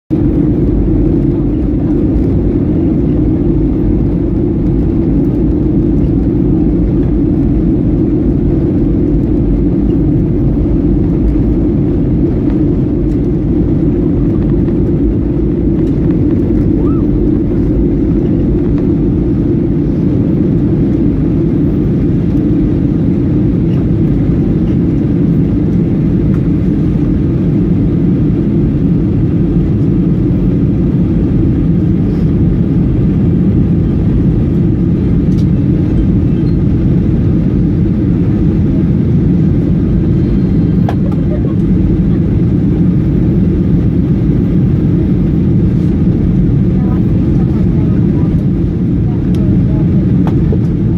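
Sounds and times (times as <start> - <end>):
airplane cabin engine rumble: 0.1 - 50.9.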